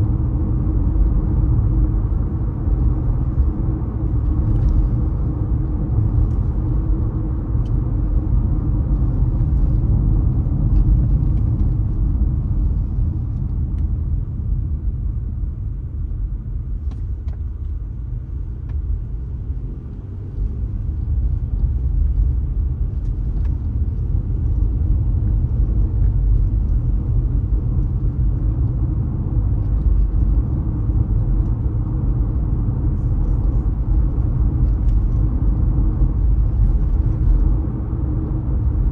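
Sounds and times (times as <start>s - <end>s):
car road and tyre noise: 0.0s - 38.9s.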